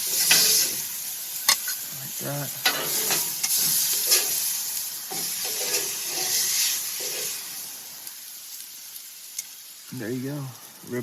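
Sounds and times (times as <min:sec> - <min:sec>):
steaks sizzling on a grill: 0:00.0 - 0:11.0.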